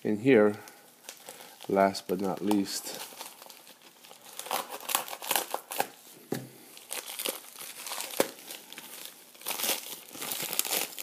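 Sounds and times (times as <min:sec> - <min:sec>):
envelope crinkling and rustling: 0:00.7 - 0:11.0.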